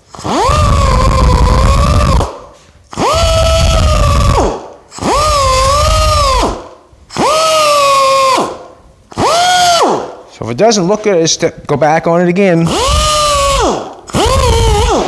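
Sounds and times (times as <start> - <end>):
air die grinder whining: 0.0 - 10.2, 12.6 - 15.0.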